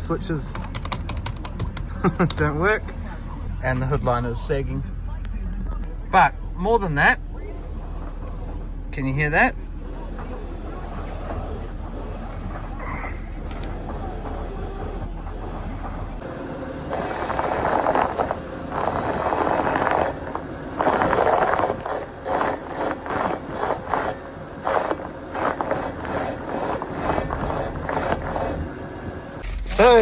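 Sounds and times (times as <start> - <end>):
car suspension creaking: 0.0 - 30.0.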